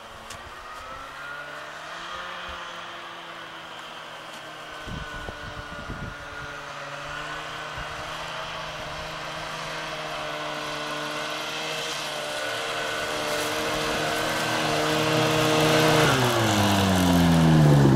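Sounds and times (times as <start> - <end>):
snowmobile engine running: 0.0 - 17.9.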